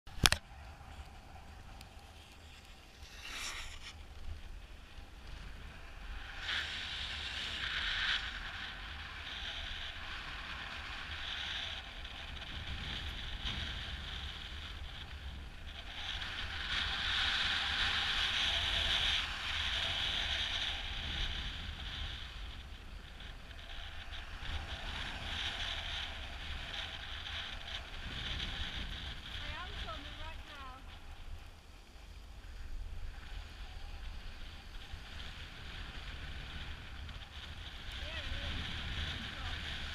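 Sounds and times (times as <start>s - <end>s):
wind buffeting microphone: 0.1s - 39.9s
skis scraping over snow: 0.6s - 39.9s.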